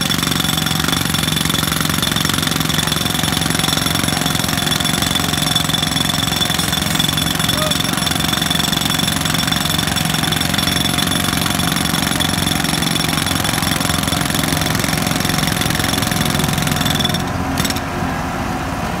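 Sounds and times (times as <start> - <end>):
jackhammer pounding: 0.0 - 17.9.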